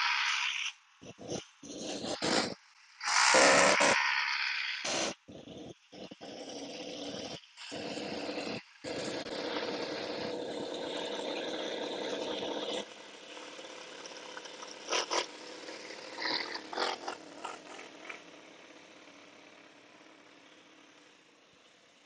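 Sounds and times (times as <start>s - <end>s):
model engine revving: 0.0s - 22.0s.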